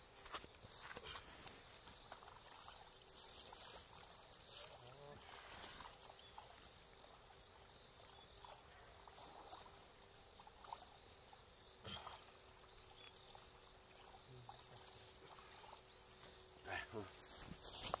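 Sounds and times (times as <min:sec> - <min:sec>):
outdoor background hiss: 0:00.0 - 0:18.0
thin steady hum: 0:00.0 - 0:18.0.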